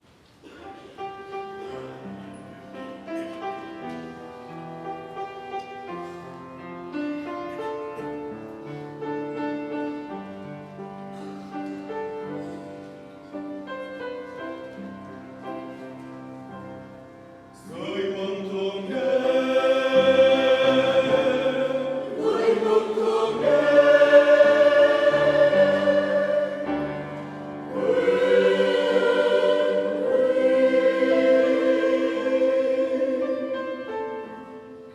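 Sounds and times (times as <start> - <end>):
choir singing a hymn: 0.7 - 34.9.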